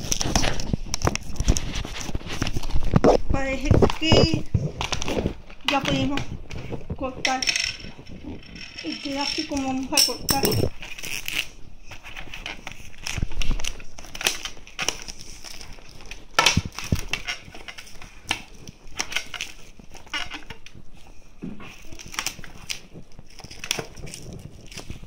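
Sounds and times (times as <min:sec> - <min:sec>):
plastic shrink-wrap crinkling: 0:00.0 - 0:10.0, 0:10.6 - 0:25.0.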